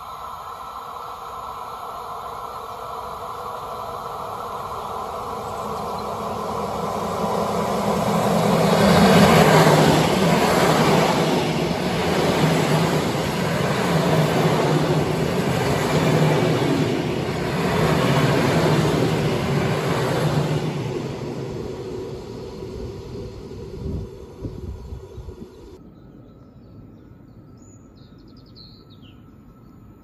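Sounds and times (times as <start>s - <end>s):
train wheels on rails: 0.0s - 25.8s.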